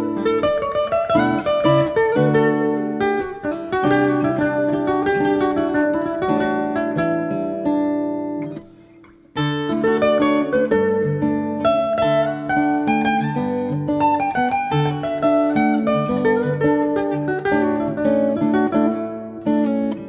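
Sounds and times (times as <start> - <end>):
acoustic guitar melody: 0.0 - 20.0.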